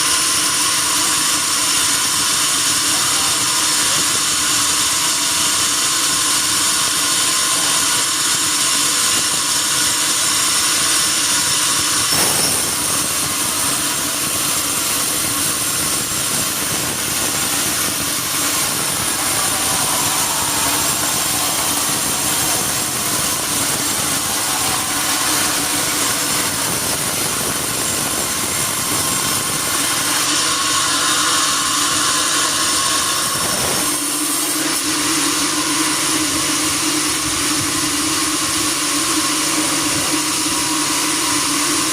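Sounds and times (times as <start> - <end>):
sawmill bandsaw running: 0.0 - 41.9.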